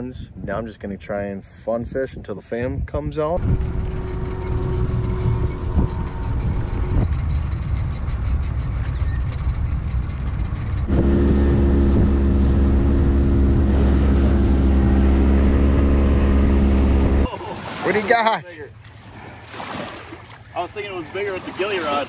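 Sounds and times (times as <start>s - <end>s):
outboard motor running: 3.4s - 22.0s
water: 3.4s - 22.0s.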